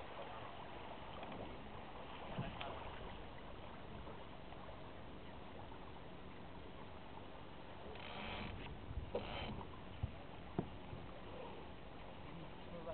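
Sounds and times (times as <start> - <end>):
wind and water rushing: 0.0 - 12.9.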